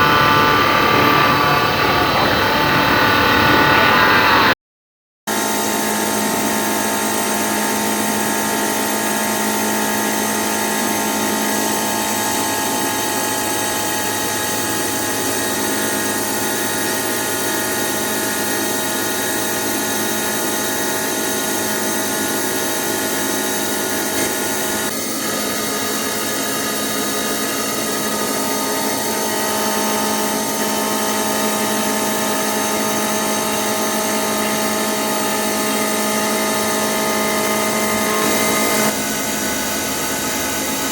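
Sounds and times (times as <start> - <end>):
milling machine cutting steel: 0.0 - 4.6, 5.3 - 40.9.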